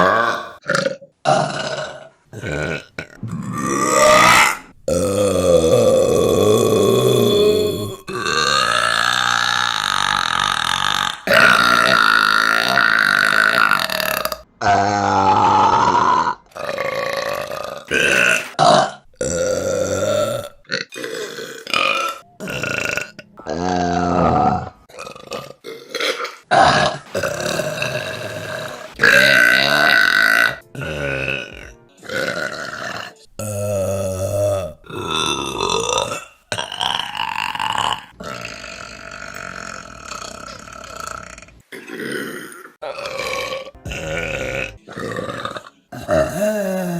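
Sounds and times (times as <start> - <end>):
women burping loudly: 0.0 - 46.9.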